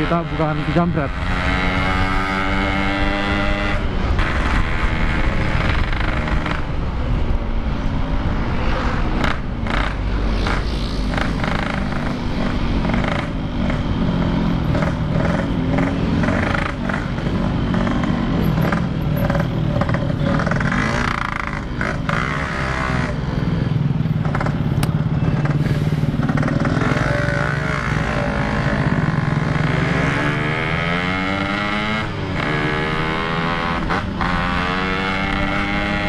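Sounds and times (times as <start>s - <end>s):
two-stroke motorcycle engine revving: 0.0s - 6.8s, 9.2s - 36.0s.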